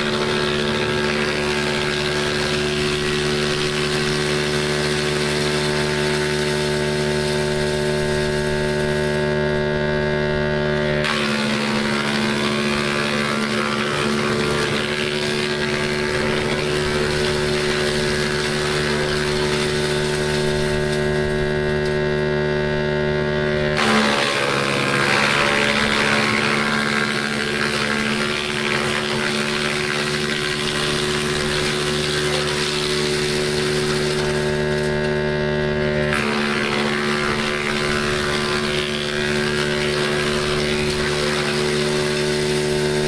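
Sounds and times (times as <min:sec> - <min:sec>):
wood chips rushing: 0:00.0 - 0:09.5, 0:10.9 - 0:22.0, 0:23.7 - 0:35.2, 0:35.9 - 0:43.0
wood crusher humming: 0:00.0 - 0:43.0.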